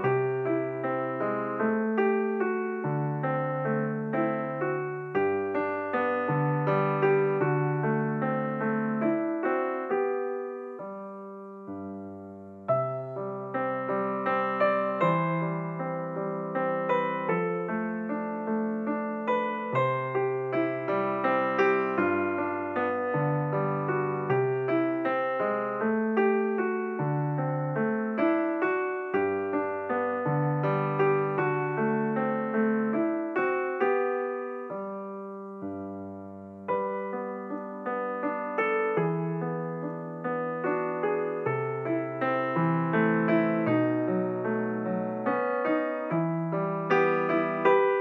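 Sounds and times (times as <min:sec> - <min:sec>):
gentle solo piano: 0:00.0 - 0:48.0.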